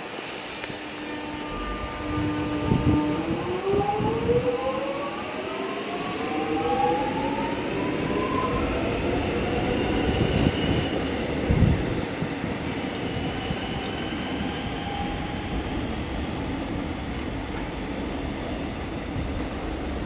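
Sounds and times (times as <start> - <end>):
electric train motors whining: 0.0 - 18.9
wheels rumbling on rail: 0.0 - 20.0.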